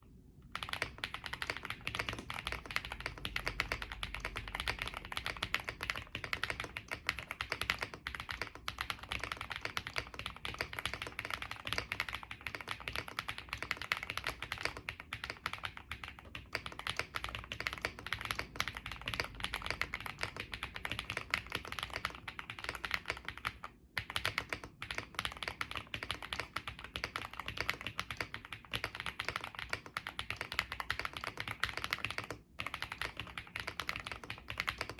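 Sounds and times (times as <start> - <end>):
mechanical keyboard typing: 0.5 - 34.9.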